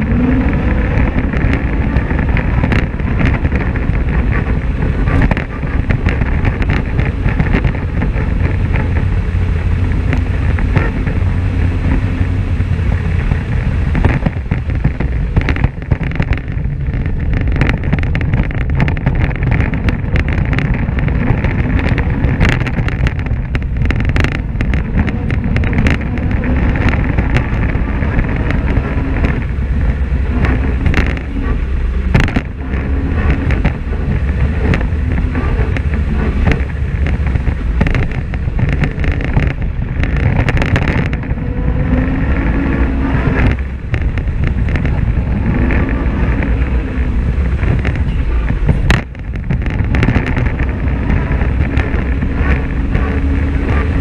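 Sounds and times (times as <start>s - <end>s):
engine running under load: 0.0s - 54.0s
knocks and rattles over bumps: 0.0s - 54.0s
tyres on gravel: 0.0s - 54.0s.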